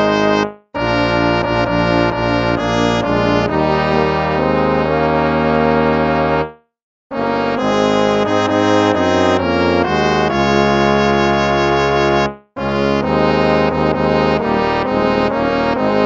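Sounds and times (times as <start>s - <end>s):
brass playing hymn: 0.0s - 16.0s.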